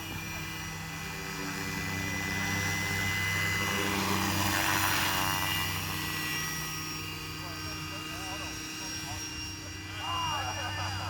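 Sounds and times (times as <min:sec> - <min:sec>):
model helicopter whine and rotor hum: 0:00.0 - 0:11.0.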